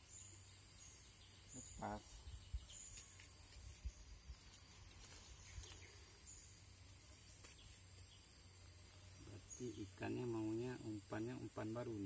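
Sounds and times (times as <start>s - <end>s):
faint chirps: 0.0s - 12.0s.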